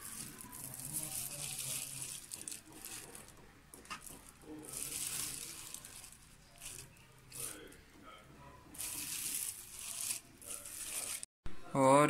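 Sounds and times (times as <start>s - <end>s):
spoon scraping flour: 0.0s - 7.8s, 8.7s - 11.3s.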